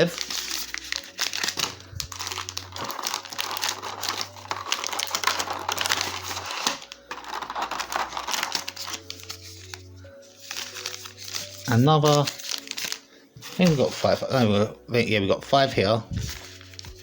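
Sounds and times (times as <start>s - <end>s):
card packs crinkling: 0.0s - 14.8s, 15.9s - 17.0s.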